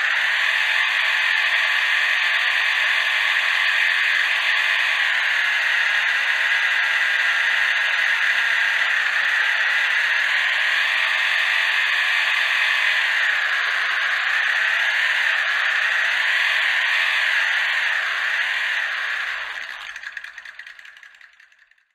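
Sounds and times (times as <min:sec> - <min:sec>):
toy car motor whining: 0:00.0 - 0:21.9.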